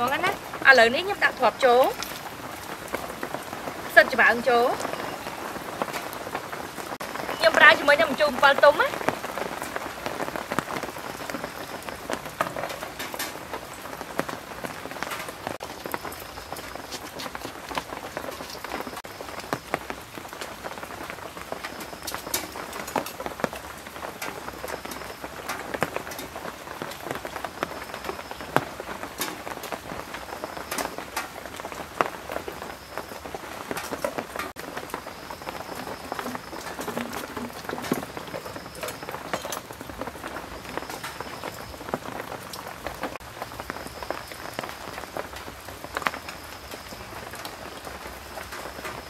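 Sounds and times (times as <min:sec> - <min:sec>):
heavy rain: 0:00.0 - 0:49.0.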